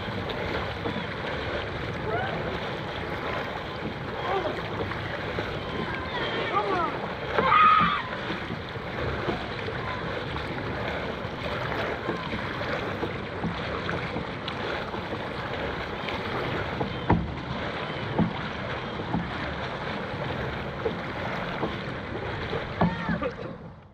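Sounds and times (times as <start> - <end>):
water wash: 0.0 - 23.9.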